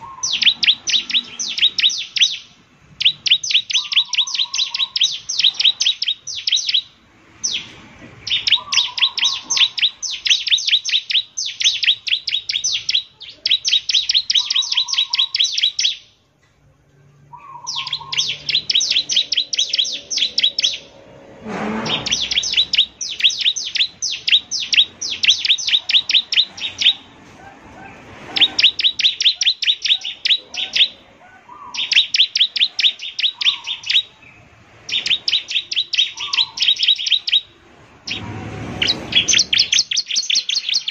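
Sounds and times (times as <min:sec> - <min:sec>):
bird singing rapid high notes: 0:00.0 - 0:16.2, 0:17.2 - 0:21.2, 0:21.8 - 0:27.2, 0:28.3 - 0:40.9.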